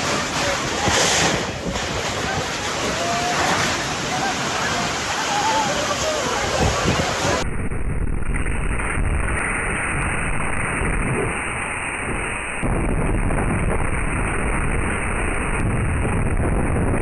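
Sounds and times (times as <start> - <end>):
tornado wind roaring: 0.0 - 17.0.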